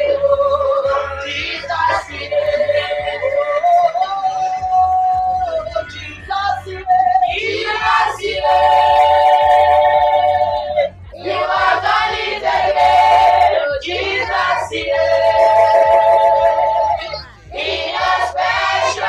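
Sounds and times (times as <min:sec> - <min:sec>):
gospel singing with long notes: 0:00.0 - 0:19.0.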